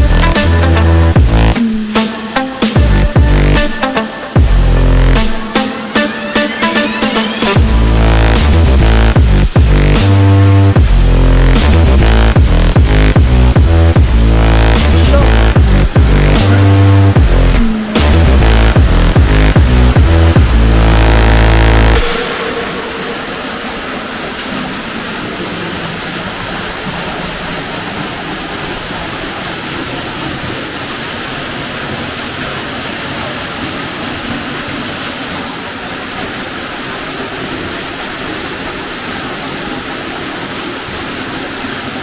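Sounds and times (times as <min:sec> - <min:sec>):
water falling: 0:00.0 - 0:42.0
water rushing in rock tunnel: 0:00.0 - 0:42.0.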